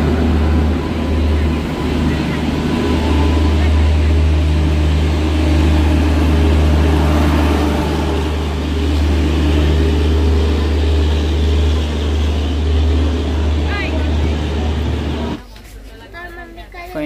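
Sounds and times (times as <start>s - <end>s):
diesel generators humming: 0.0s - 15.4s.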